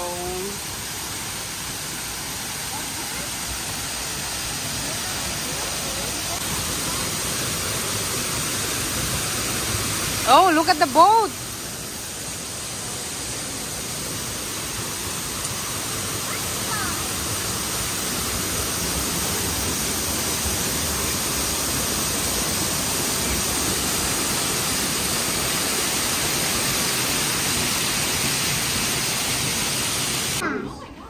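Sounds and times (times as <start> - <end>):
waterfall rushing over rocks: 0.0 - 30.4.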